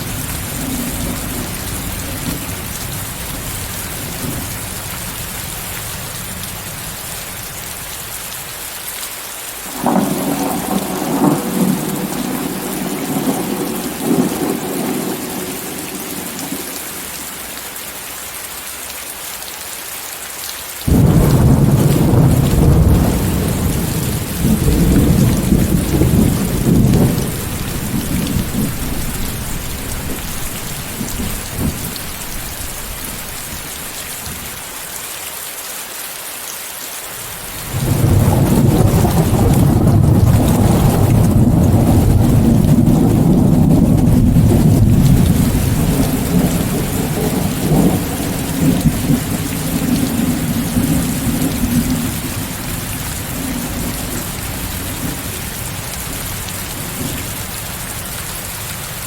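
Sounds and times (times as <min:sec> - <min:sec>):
rolling thunder: 0:00.0 - 0:07.0, 0:09.7 - 0:17.0, 0:20.9 - 0:34.6, 0:37.7 - 0:57.4
steady rain: 0:00.0 - 0:59.0.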